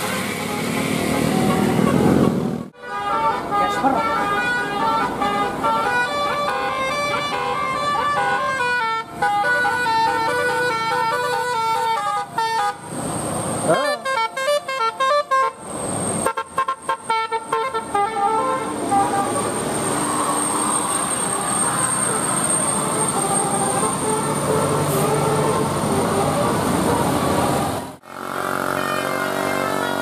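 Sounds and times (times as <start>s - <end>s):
multi-tone air horn melody: 0.0s - 12.9s, 13.7s - 15.6s, 16.2s - 30.0s.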